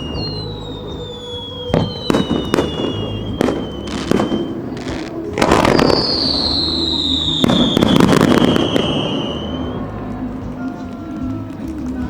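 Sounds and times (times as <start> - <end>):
firework bang: 0.0 - 9.8
firework whistle sliding down: 0.0 - 9.8
fireworks crackling pops: 0.0 - 12.0.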